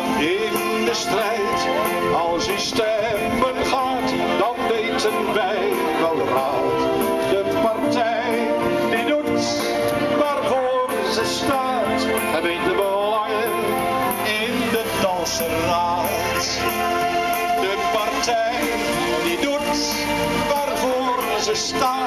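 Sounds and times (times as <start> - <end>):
instrumental accompaniment: 0.0 - 22.0
person singing: 0.0 - 22.0.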